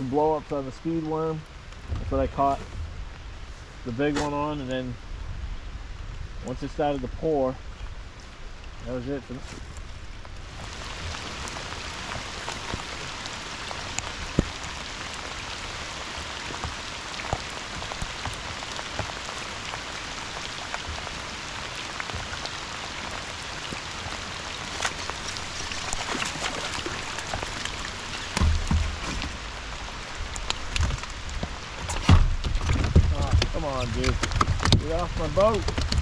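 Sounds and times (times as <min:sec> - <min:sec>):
raindrops ticking near microphone: 0:00.0 - 0:36.0
steady rain hiss: 0:00.0 - 0:36.0.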